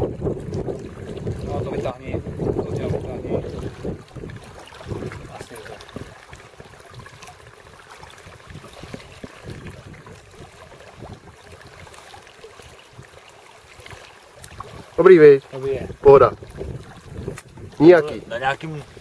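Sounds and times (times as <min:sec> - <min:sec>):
faint water lapping: 0:00.0 - 0:19.0
wind buffeting microphone: 0:00.0 - 0:19.0.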